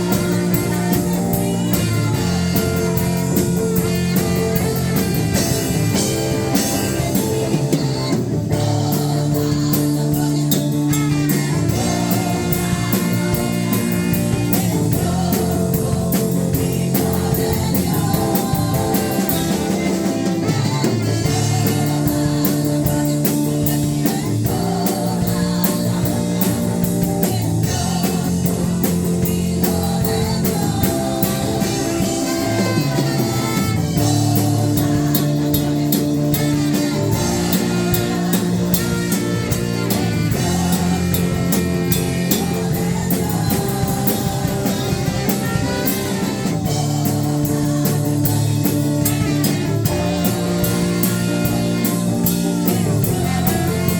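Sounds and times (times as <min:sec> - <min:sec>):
drum kit: 0:00.0 - 0:53.9
guitar: 0:00.0 - 0:53.9
worship band music: 0:00.0 - 0:53.9.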